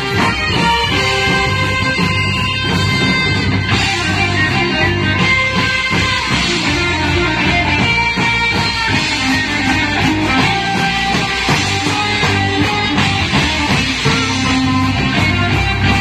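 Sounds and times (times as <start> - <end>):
marching band saxophones and trumpets: 0.0 - 16.0
steady drum beat: 0.0 - 16.0.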